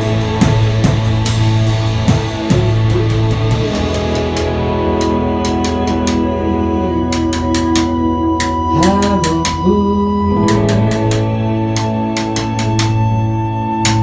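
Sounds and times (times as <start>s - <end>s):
drum kit with cymbal hits: 0.0s - 14.0s
electric guitar chords: 0.0s - 14.0s
person singing: 0.0s - 14.0s.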